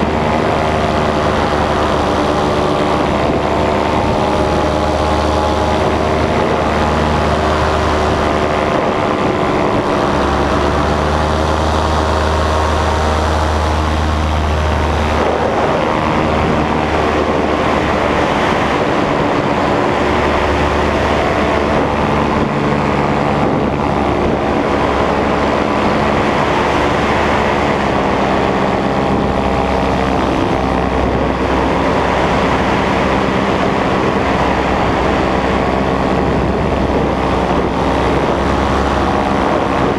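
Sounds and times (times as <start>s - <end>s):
paramotor engine and propeller: 0.0s - 39.9s
wind noise on microphone: 0.0s - 39.9s.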